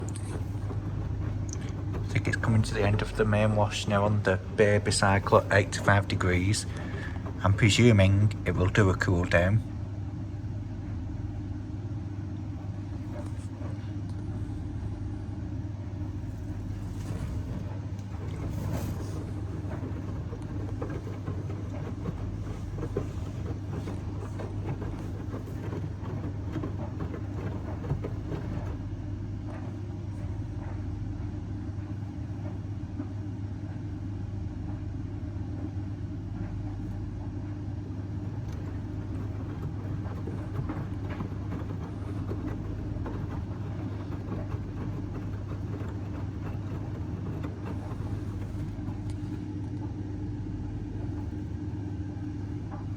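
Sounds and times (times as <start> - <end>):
washing machine motor hum: 0.0 - 52.9.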